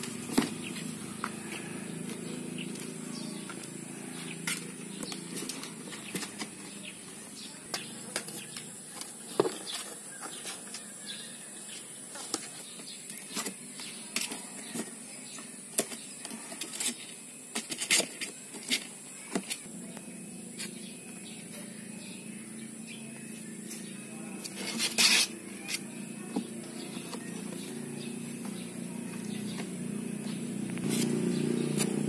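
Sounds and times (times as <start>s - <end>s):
kittens scratching on cardboard: 0.0s - 7.0s, 8.1s - 19.6s, 23.3s - 32.0s.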